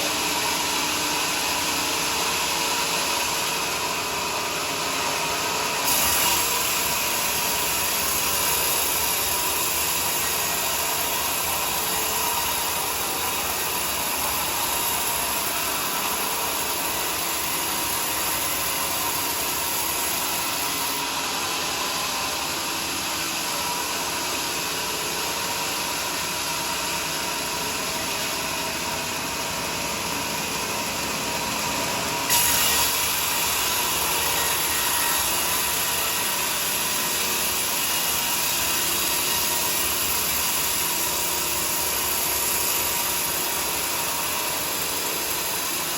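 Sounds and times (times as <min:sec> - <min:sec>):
band sawmill sawing log: 0:00.2 - 0:26.4, 0:29.6 - 0:45.9.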